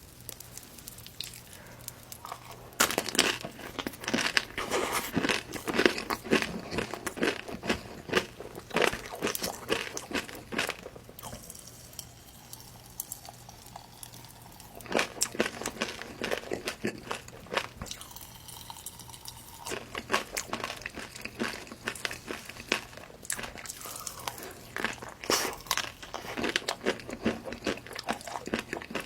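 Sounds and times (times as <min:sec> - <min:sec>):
crunchy food chewing: 0:00.0 - 0:29.0.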